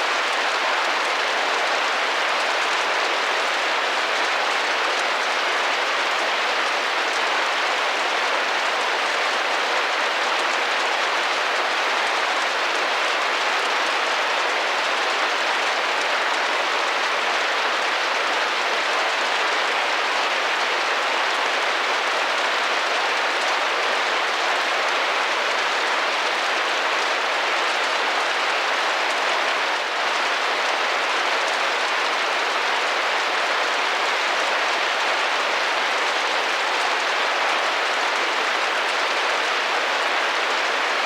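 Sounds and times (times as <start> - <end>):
rain on a window: 0.0 - 41.0.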